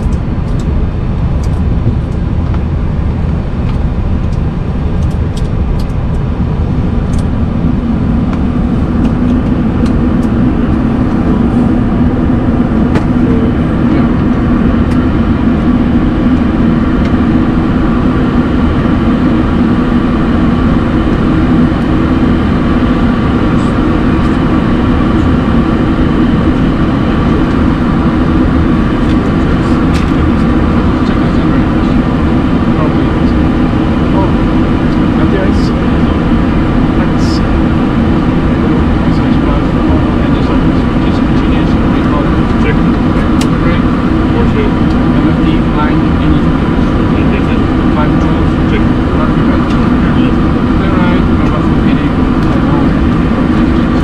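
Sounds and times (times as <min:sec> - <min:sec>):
cockpit hum and air rush: 0:00.0 - 0:54.0.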